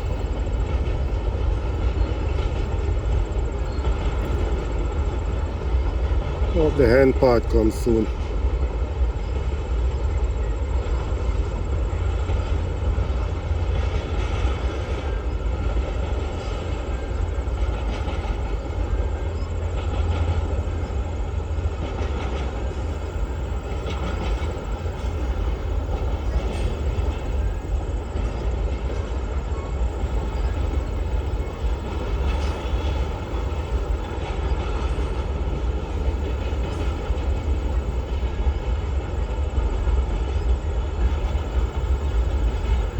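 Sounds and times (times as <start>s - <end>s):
train rumbling past: 0.0s - 42.9s
train wheel clacks: 0.0s - 42.9s.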